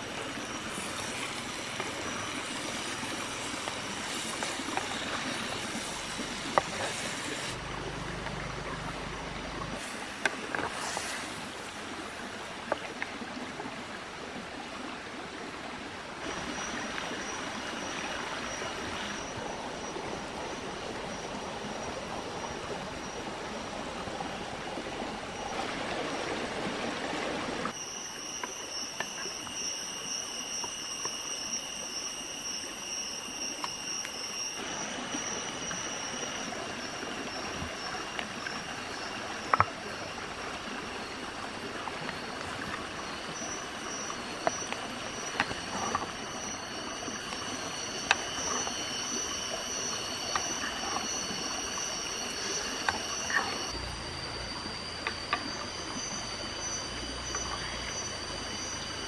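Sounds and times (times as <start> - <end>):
thin high steady tone: 0.0 - 12.0, 16.2 - 25.6, 27.6 - 59.0
stream running over stones: 0.0 - 59.0.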